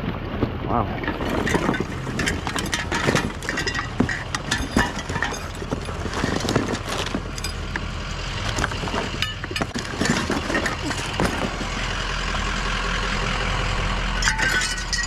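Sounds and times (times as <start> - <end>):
scrap items clinking and rattling: 0.0 - 12.1, 14.2 - 15.0
engine idling: 0.0 - 15.0.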